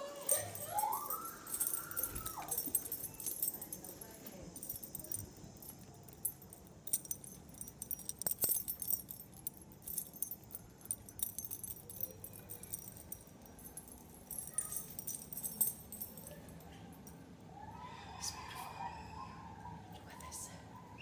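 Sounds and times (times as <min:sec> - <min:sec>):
small metal pieces jingling: 0:00.0 - 0:17.1.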